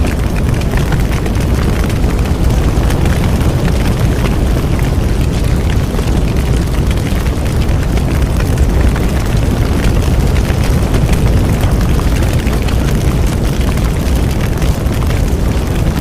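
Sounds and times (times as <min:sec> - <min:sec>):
bonfire rumbling: 0:00.0 - 0:16.0
wood crackling and popping: 0:00.0 - 0:16.0.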